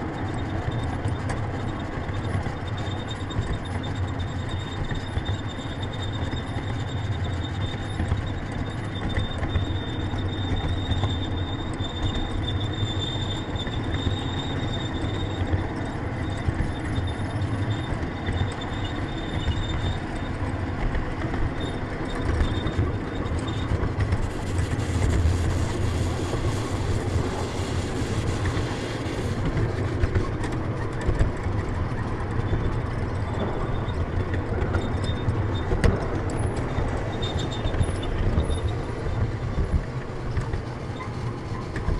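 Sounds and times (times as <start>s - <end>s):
miniature train wheels rumbling: 0.0s - 41.9s.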